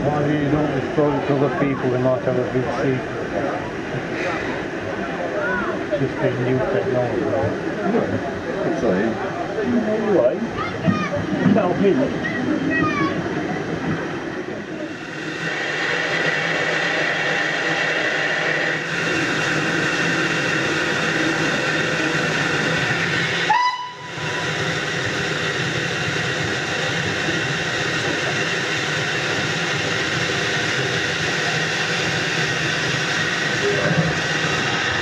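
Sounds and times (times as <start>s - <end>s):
steam train rumble and hiss: 0.0s - 35.0s.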